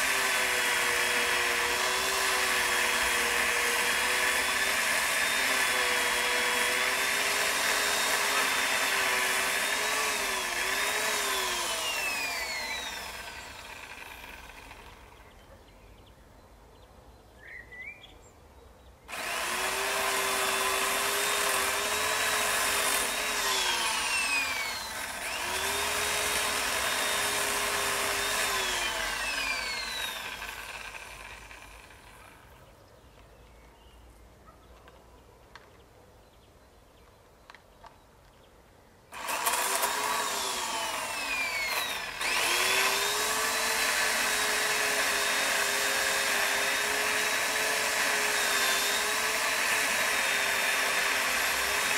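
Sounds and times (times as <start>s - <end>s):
electric saw cutting a tree: 0.0s - 15.3s, 19.1s - 32.6s, 39.1s - 51.9s.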